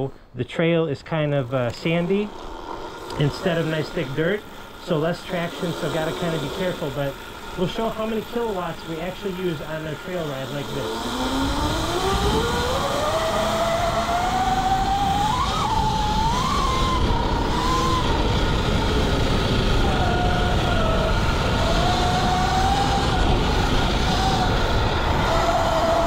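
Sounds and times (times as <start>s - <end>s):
electric motorbike motor whining: 1.2s - 26.0s
wind and tyre noise: 1.2s - 26.0s.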